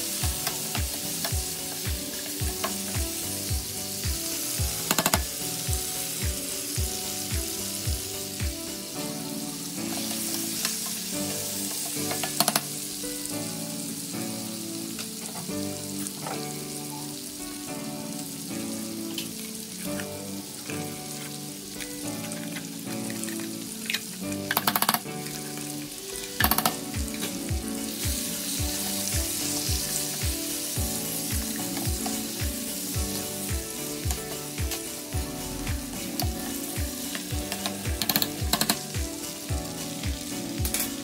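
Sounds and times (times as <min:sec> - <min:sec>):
background music with beat: 0:00.0 - 0:41.0
meat sizzling in a frying pan: 0:00.0 - 0:41.0.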